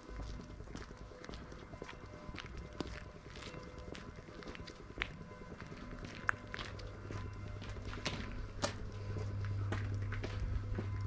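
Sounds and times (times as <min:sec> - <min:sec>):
footsteps on pavement: 0:00.0 - 0:11.0
steady low hum: 0:00.0 - 0:11.0.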